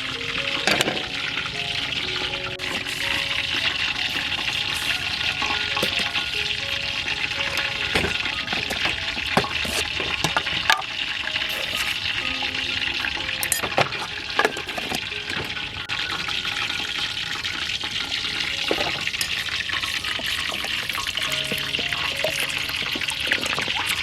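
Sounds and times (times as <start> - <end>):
food sizzling in hot oil: 0.0 - 24.0
soft background music: 0.0 - 24.0.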